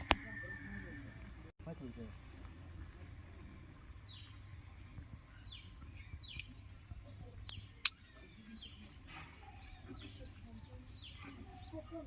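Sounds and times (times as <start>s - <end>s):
bird chirps: 2.3s - 12.0s.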